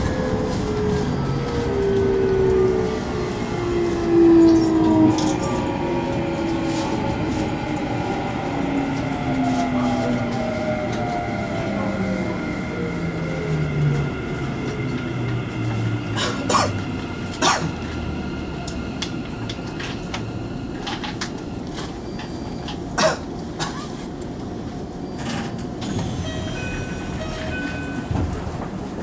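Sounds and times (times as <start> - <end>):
electric train running rumble: 0.0 - 29.0.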